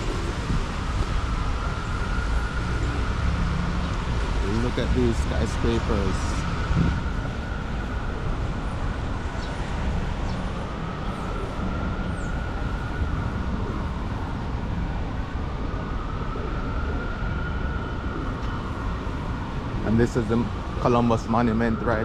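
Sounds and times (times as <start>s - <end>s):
city traffic on wet streets: 0.0s - 22.0s
emergency vehicle siren wailing: 0.0s - 22.0s.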